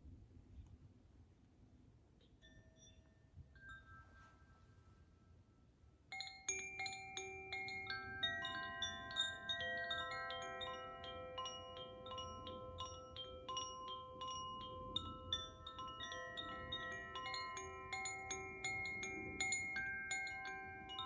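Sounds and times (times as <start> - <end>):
wind chime ringing: 2.4 - 4.7, 6.1 - 21.0.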